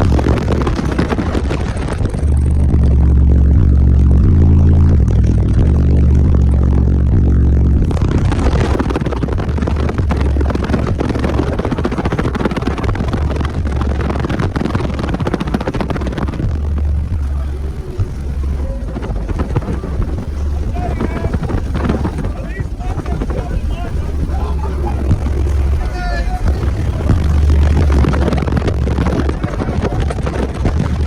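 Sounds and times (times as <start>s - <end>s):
loud bass music in car: 0.0s - 31.0s
rushing rattling noise: 0.0s - 31.0s.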